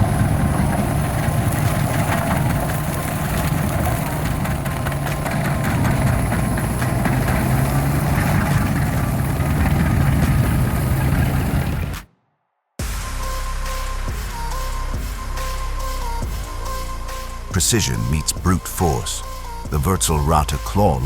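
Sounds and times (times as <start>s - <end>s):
heavy diesel engine running: 0.0s - 12.1s, 12.8s - 21.0s.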